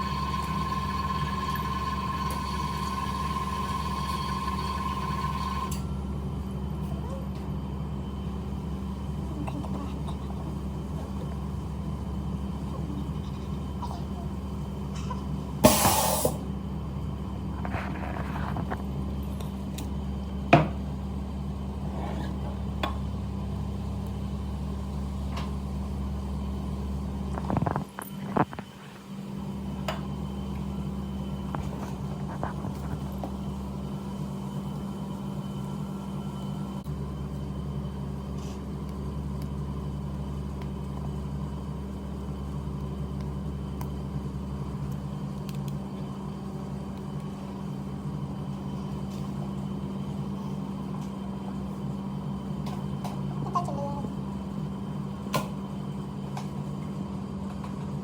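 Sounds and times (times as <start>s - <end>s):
electric machine hum: 0.0s - 58.0s.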